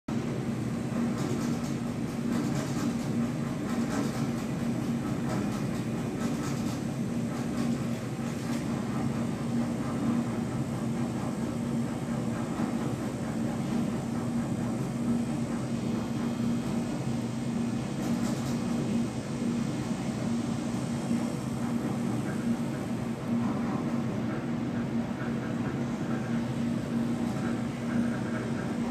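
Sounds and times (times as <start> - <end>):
elevator hum and rumble: 0.1 - 28.9.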